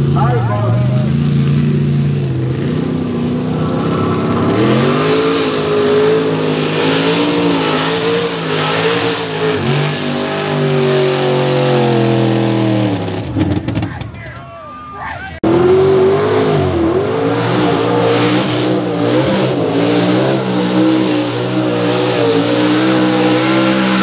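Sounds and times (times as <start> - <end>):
truck engine revving: 0.0 - 14.4, 15.3 - 24.0.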